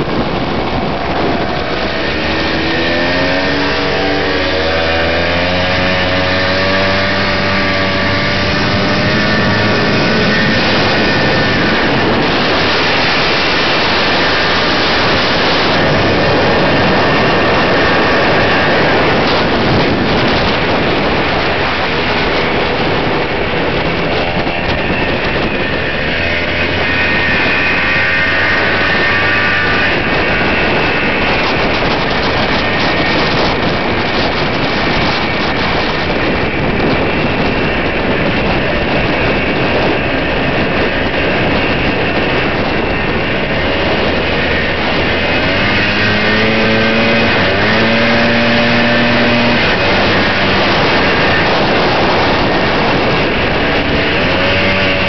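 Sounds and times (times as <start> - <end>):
two-stroke motorcycle engine: 0.0 - 55.0
wind rush on microphone: 0.0 - 55.0.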